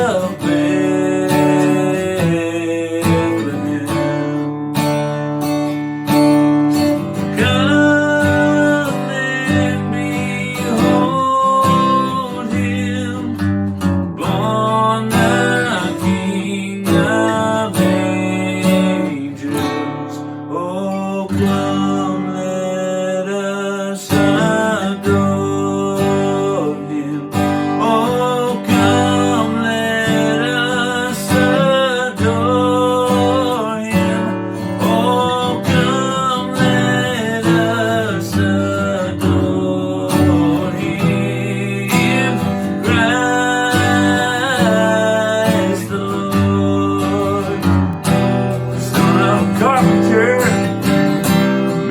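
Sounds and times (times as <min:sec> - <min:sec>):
acoustic guitar song: 0:00.0 - 0:51.9.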